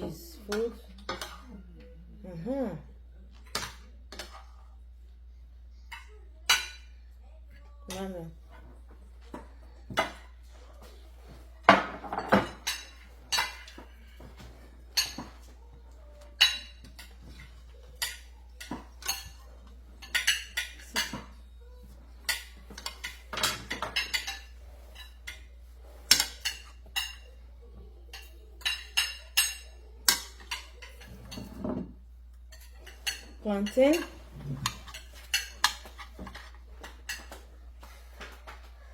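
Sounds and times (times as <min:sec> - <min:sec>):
cutlery clinking on plates: 0:00.4 - 0:01.9, 0:03.3 - 0:04.7, 0:05.7 - 0:07.2, 0:07.9 - 0:38.9.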